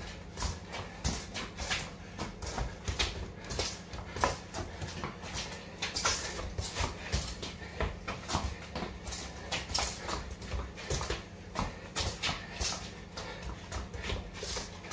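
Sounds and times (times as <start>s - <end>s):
football thuds: 0.0s - 14.9s
trainers tapping and scuffing: 0.0s - 14.9s.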